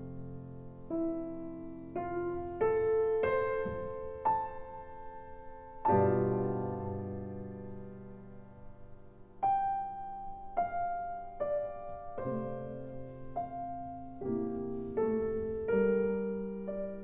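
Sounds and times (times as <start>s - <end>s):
slow solo piano music: 0.0s - 17.0s.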